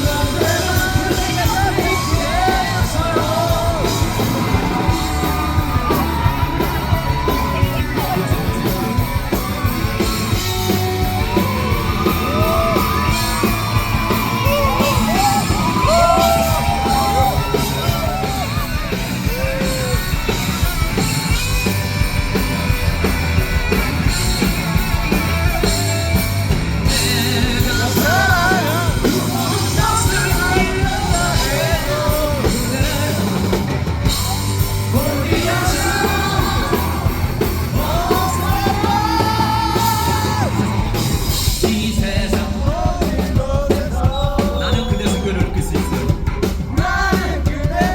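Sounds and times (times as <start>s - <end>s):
person yelling and singing: 0.0s - 21.5s, 25.2s - 47.9s
rock band playing live: 0.0s - 47.9s.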